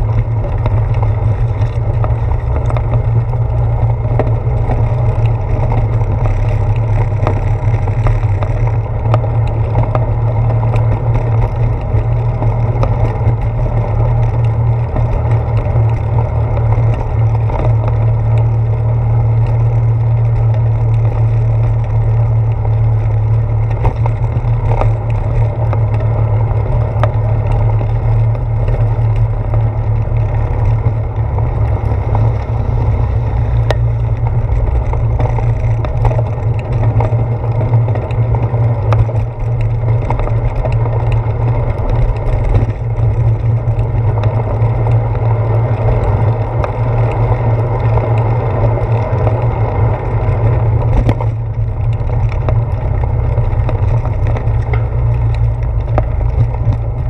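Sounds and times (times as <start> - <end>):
bicycle rolling rumble: 0.0 - 57.0
wind noise: 0.0 - 57.0.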